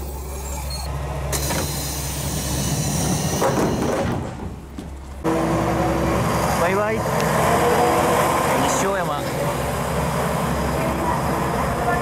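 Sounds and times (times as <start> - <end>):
diesel railcar engine idling: 0.0 - 12.0.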